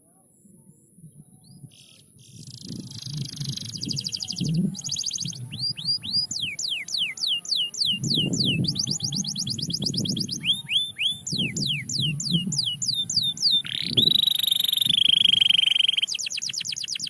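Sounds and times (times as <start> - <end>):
canary singing trills: 1.4 - 17.0.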